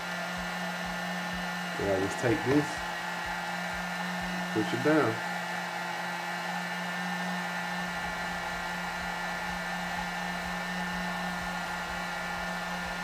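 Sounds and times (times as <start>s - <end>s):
fan motor hum: 0.0s - 13.0s
heat gun blowing air: 0.0s - 13.0s.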